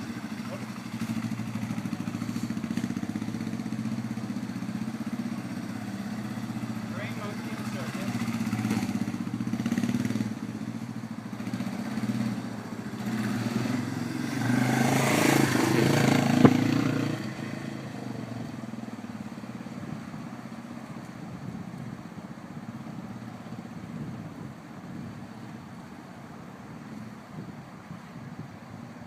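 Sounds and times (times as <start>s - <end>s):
motorcycle engine running: 0.0s - 25.8s.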